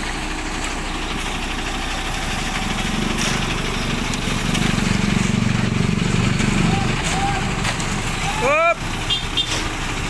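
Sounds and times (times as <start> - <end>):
diesel truck engine rumbling: 0.0 - 10.0.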